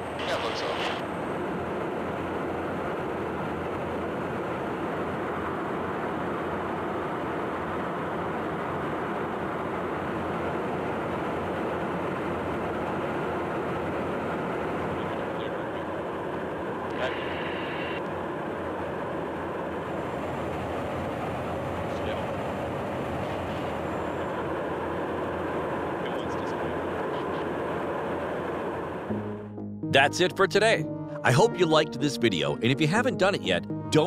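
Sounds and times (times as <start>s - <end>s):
jet aircraft engine and airflow: 0.0s - 34.0s.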